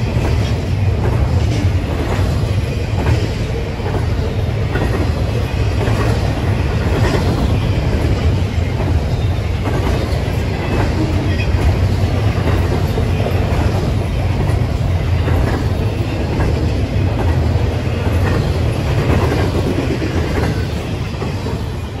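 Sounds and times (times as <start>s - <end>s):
train rolling past: 0.0s - 22.0s
wheels clicking over rail joints: 0.0s - 22.0s.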